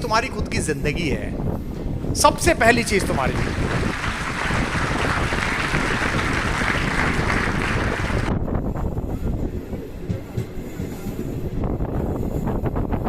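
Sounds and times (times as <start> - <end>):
train running on rails: 1.4 - 13.0.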